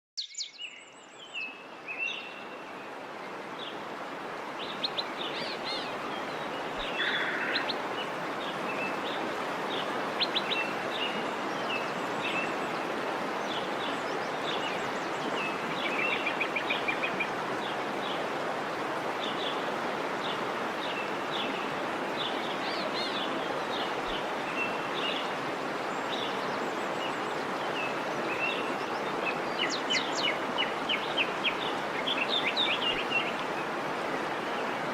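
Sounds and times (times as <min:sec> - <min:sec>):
waterfall rushing: 0:01.7 - 0:34.9.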